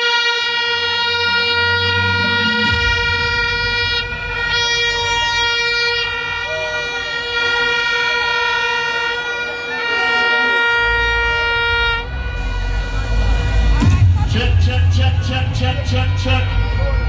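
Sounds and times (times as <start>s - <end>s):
loud steady air horn: 0.0s - 17.0s
deep bass: 0.5s - 8.6s, 10.8s - 17.0s.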